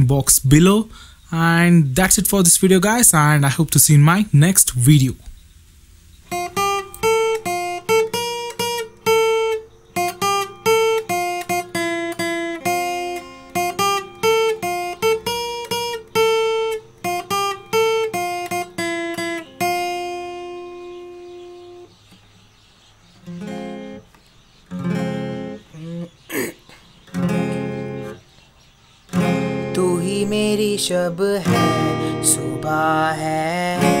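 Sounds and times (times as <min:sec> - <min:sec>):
acoustic guitar melody: 0:00.0 - 0:34.0.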